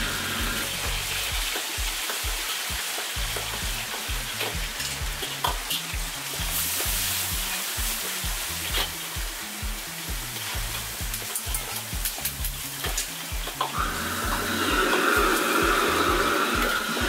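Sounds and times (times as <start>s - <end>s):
background music with bass beat: 0.0s - 17.0s
food sizzling in hot oil: 0.0s - 17.0s.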